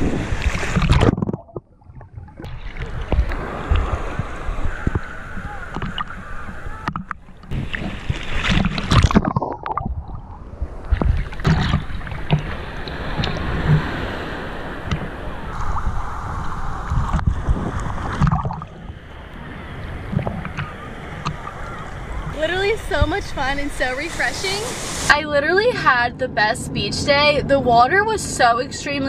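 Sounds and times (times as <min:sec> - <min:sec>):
swimming splashes: 0:00.0 - 0:25.2
water sloshing and splashing: 0:00.0 - 0:25.2.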